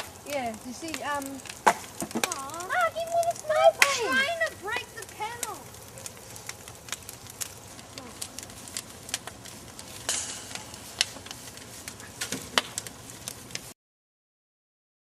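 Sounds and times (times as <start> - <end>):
campfire crackling: 0.0 - 13.8
fire hissing: 0.0 - 13.8
fire popping: 0.0 - 13.8.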